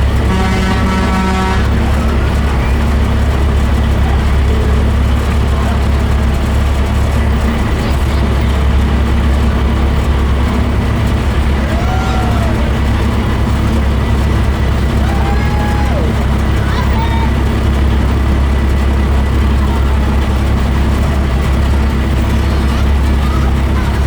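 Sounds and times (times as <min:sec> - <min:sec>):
road and wind noise: 0:00.0 - 0:24.0
truck engine droning: 0:00.0 - 0:24.0.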